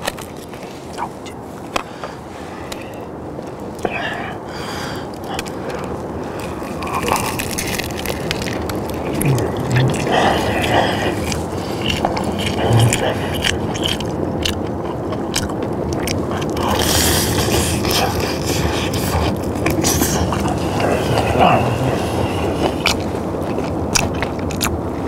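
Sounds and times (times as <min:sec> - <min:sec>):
crunching fried chicken: 0:00.0 - 0:25.0.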